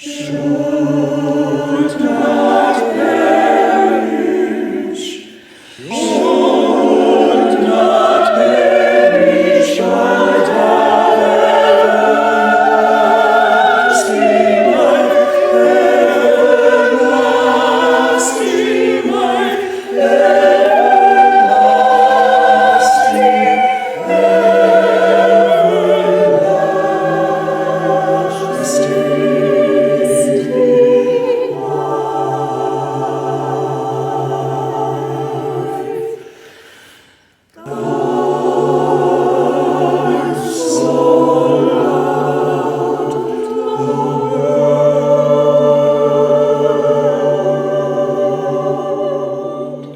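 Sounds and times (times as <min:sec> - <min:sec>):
choir singing sustained chords: 0:00.0 - 0:36.8, 0:37.6 - 0:49.9.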